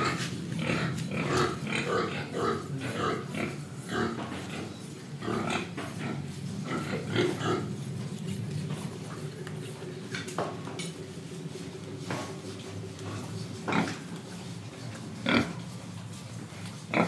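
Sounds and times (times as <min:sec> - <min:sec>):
pigs grunting: 0:00.0 - 0:10.4, 0:13.0 - 0:15.9, 0:16.5 - 0:17.0.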